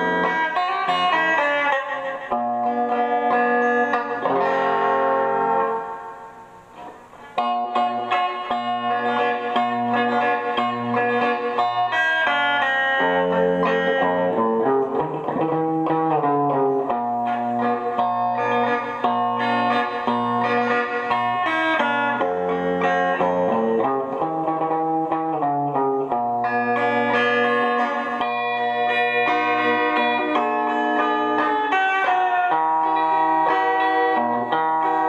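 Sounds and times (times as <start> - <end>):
fingerstyle guitar: 0.0 - 35.0.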